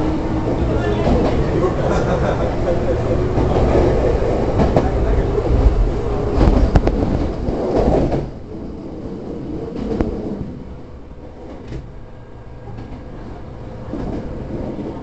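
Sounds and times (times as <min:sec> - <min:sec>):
electric train wheels rumbling: 0:00.0 - 0:15.0.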